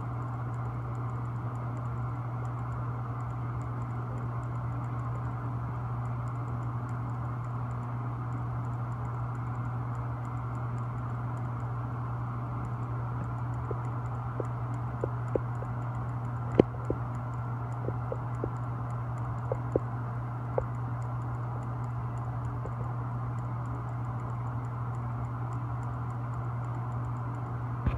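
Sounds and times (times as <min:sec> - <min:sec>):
light irregular clicks: 0:00.0 - 0:27.9
steady low hum: 0:00.0 - 0:27.9.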